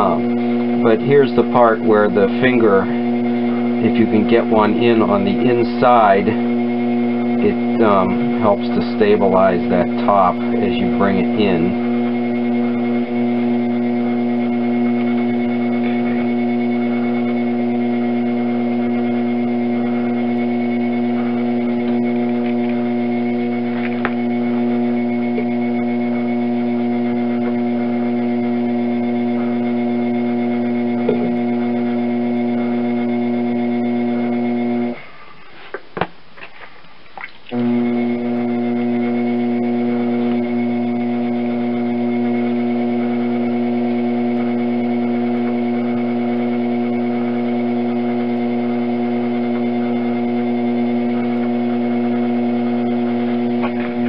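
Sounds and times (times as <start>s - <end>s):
potter's wheel motor hum: 0.0s - 36.7s, 37.4s - 54.0s.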